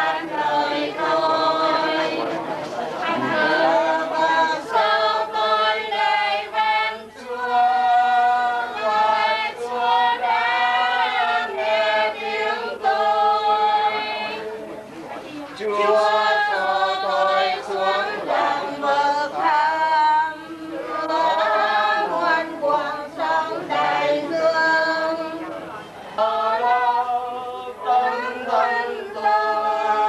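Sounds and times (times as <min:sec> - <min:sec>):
group singing slow hymn unaccompanied: 0:00.0 - 0:30.0.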